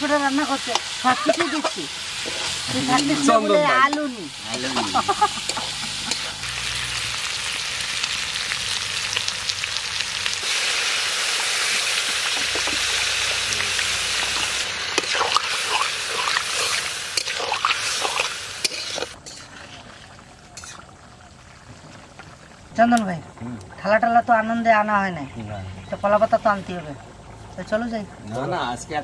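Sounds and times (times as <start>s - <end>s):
curry sizzling in a pan: 0.0s - 24.9s.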